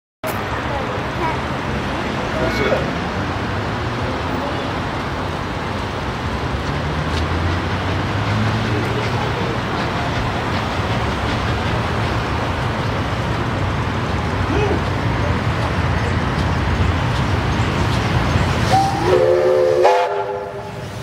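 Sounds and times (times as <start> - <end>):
outdoor background noise: 0.2 - 21.0
train rumble: 0.2 - 21.0.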